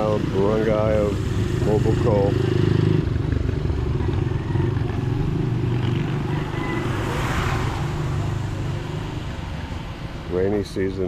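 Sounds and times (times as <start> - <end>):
vehicle passing: 0.0 - 10.6.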